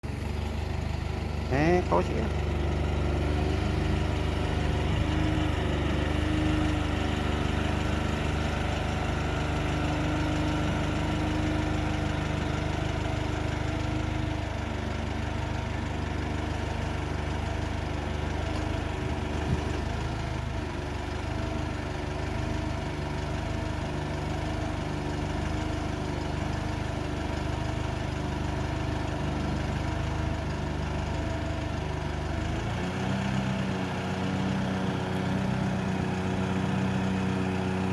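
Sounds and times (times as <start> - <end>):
truck engine running: 0.0 - 37.9.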